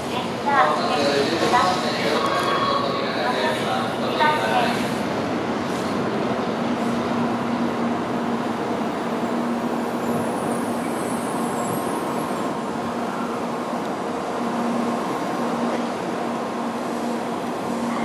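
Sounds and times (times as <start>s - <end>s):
train running hum: 0.0s - 18.0s.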